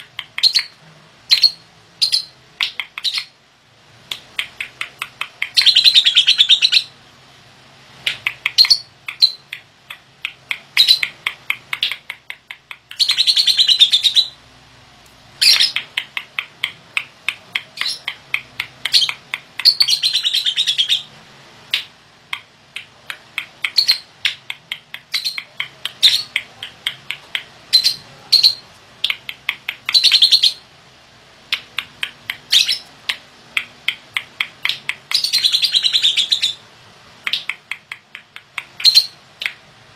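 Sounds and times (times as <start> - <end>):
lovebird chirping: 0.0 - 3.4, 4.1 - 7.0, 8.0 - 14.4, 15.4 - 21.1, 21.7 - 30.7, 31.5 - 36.6, 38.6 - 39.6.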